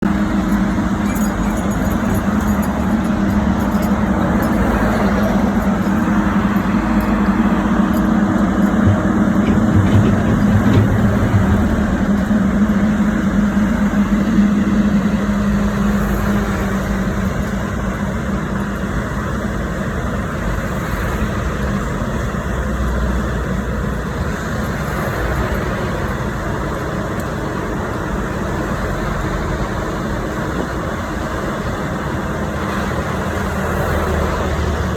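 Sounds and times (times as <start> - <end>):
heavy engines running: 0.0 - 34.9.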